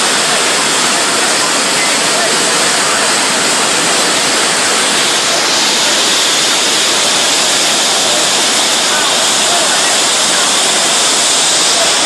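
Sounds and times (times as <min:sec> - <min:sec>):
flood water rushing: 0:00.0 - 0:12.0.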